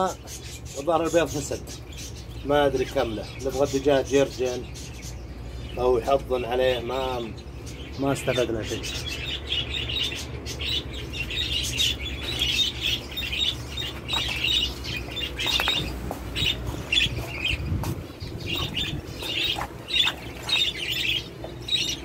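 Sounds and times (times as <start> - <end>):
caged birds chirping and twittering: 0.0 - 22.0.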